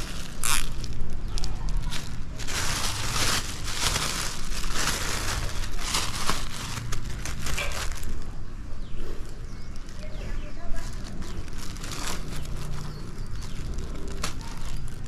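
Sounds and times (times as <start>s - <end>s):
plastic bag crinkling: 0.0s - 8.4s, 9.6s - 15.0s.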